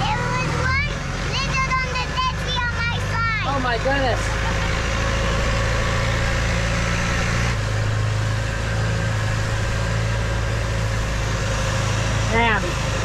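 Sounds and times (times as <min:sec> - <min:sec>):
boat engine running: 0:00.0 - 0:13.0
water noise: 0:00.0 - 0:13.0.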